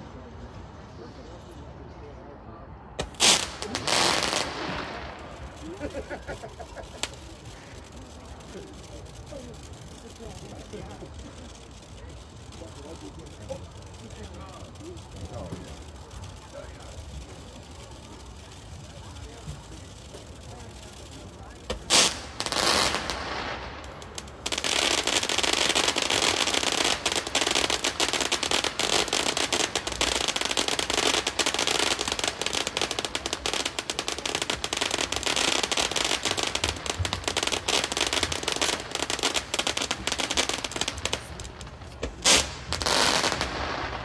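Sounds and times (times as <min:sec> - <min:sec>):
fireworks fountain crackling: 0:02.8 - 0:44.0
sharp firework crack: 0:03.0 - 0:44.0.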